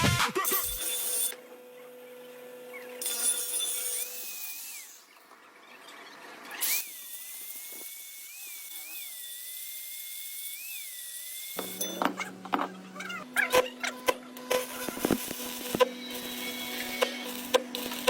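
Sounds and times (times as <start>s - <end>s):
small power tool whine: 0.4s - 18.0s.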